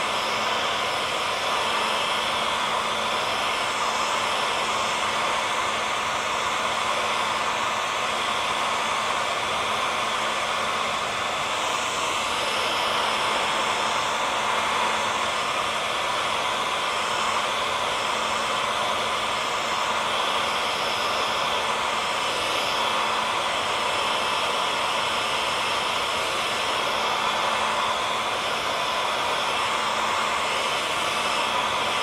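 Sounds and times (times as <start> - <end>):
hair dryer running: 0.0 - 32.0.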